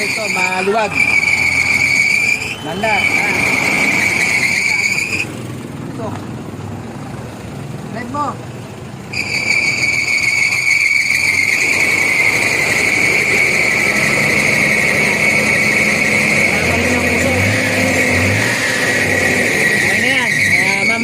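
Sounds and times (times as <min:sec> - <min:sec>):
high-pitched whine: 0:00.0 - 0:05.3, 0:09.1 - 0:21.0
diesel truck engine revving: 0:00.0 - 0:21.0.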